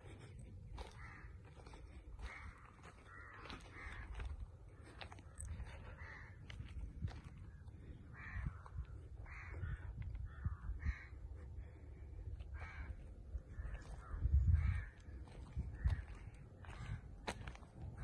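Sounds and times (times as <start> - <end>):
crows cawing: 0.7 - 18.0.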